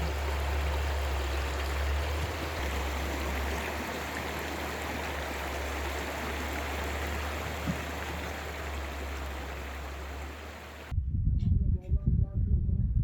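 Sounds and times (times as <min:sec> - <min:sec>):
rushing water: 0:00.0 - 0:10.9
constant low hum: 0:00.0 - 0:12.1.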